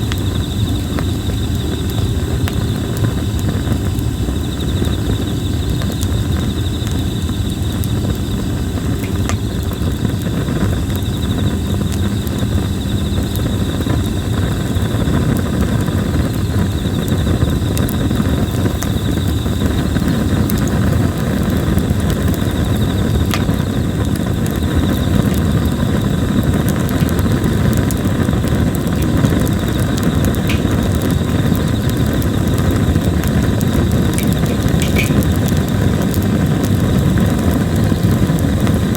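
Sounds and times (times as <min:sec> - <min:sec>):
campfire crackling and popping: 0:00.0 - 0:38.9
insects chirping: 0:00.0 - 0:38.9.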